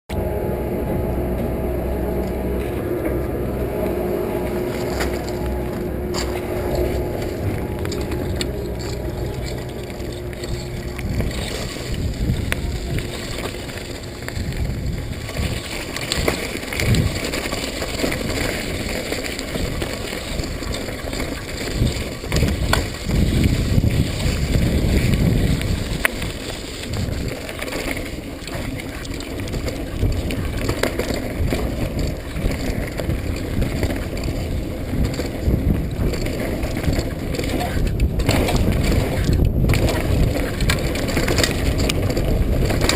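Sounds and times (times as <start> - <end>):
bike tyres rumbling on dirt: 0.1 - 42.9
bike clicks and rattles: 3.6 - 42.9.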